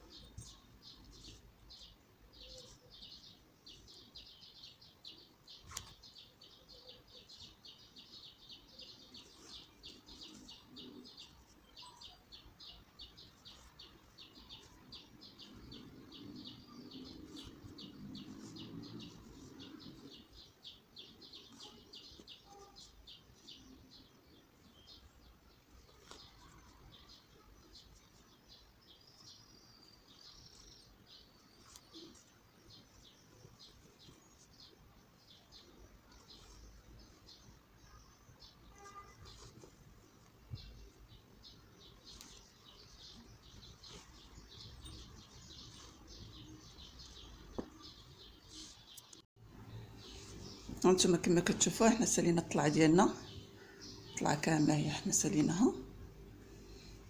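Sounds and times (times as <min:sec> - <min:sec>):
small bird chirping: 0:00.0 - 0:57.0.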